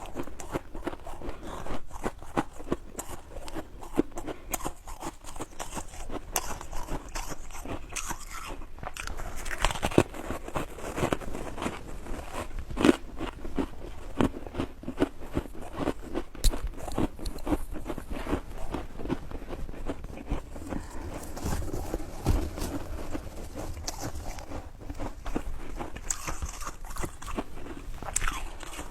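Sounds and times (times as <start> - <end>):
ice being chewed: 0.0 - 28.9.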